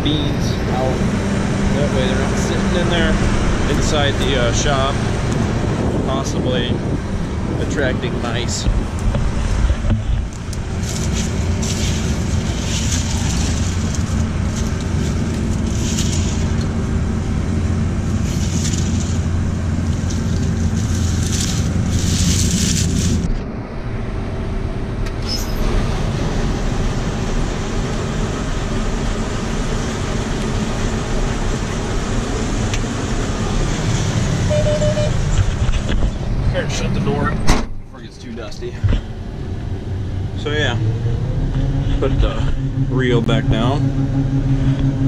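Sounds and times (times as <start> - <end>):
combine harvester drone: 0.0 - 45.0
engine running: 0.0 - 45.0.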